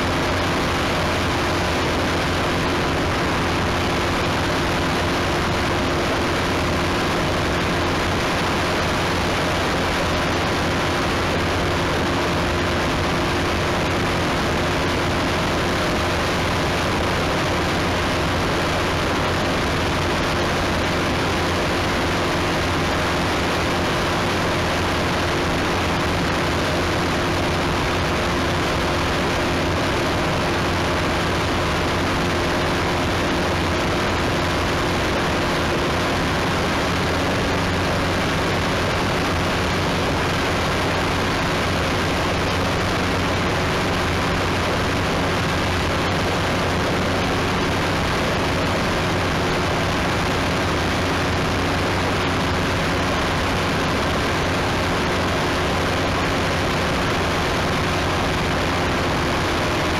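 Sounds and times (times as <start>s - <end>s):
small aircraft engine running: 0.0s - 59.9s.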